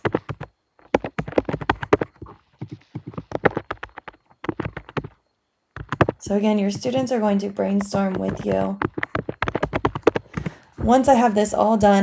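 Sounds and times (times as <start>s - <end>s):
typing on keyboard: 0.0s - 5.2s, 5.8s - 12.0s.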